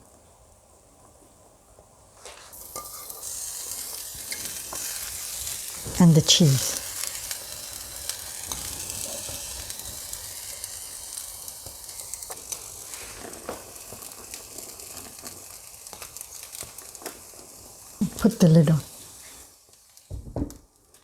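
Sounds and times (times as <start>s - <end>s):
batter sizzling in a frying pan: 0.0s - 21.0s.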